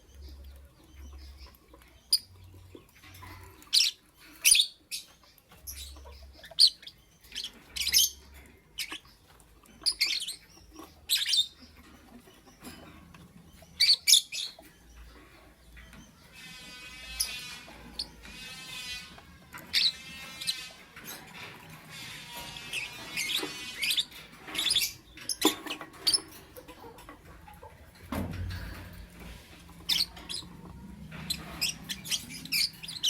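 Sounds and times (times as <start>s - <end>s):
lovebird chirping and squawking: 0.1s - 27.4s, 28.5s - 33.0s
bird warbling buzzy chatter: 5.7s - 33.0s.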